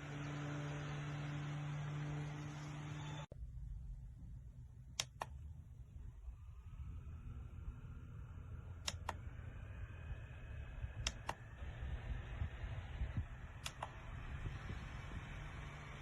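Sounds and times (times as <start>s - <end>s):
desk fan humming and whining: 0.0s - 3.3s, 4.8s - 16.0s.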